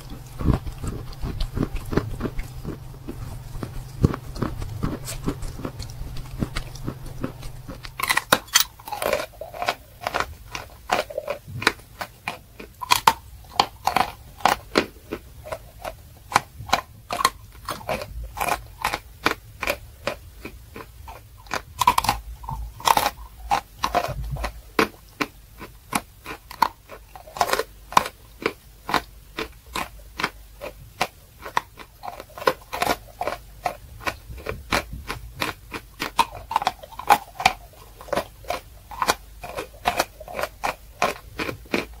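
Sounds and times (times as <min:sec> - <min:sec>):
chewing chalk crunches: 0:00.0 - 0:42.0.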